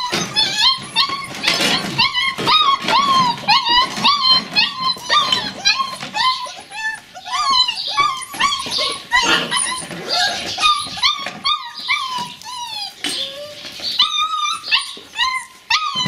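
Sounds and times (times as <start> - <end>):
puppies whining and yipping: 0.0 - 16.0.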